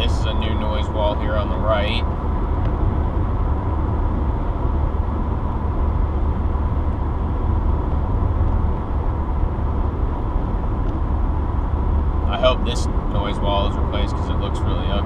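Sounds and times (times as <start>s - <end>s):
car road noise at highway speed: 0.0s - 15.0s
faint steady hum: 0.0s - 15.0s.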